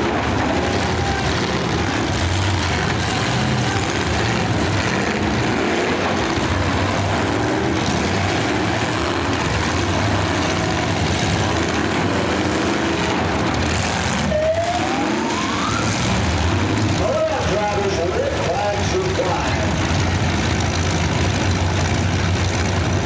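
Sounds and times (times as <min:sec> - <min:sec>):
car engines revving together: 0:00.0 - 0:23.0
rising engine whine: 0:00.0 - 0:23.0.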